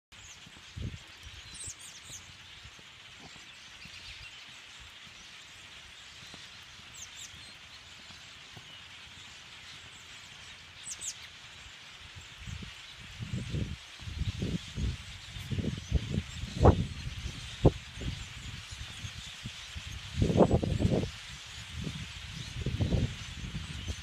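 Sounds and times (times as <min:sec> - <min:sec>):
flock of birds chattering: 0:00.1 - 0:24.0
sharp high bird calls: 0:00.2 - 0:24.0.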